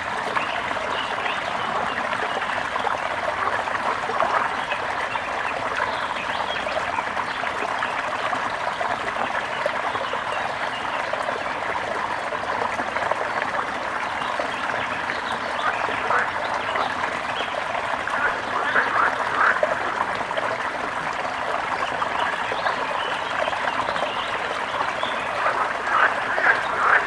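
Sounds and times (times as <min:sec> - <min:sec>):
water trickling and babbling: 0:00.0 - 0:27.0.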